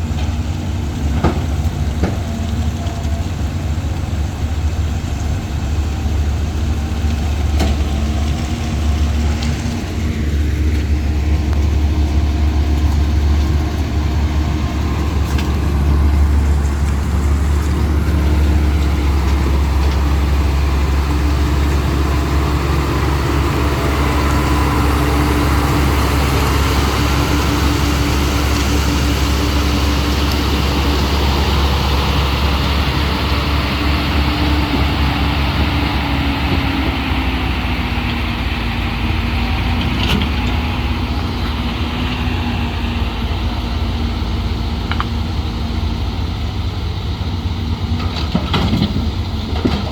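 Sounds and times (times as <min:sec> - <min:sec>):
heavy diesel engine rumbling: 0:00.0 - 0:49.9.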